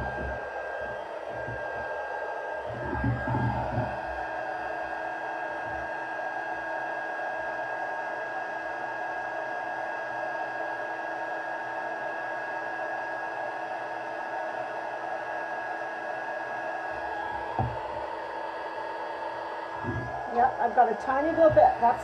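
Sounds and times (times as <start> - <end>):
heat tool fan whining: 0.0 - 22.0.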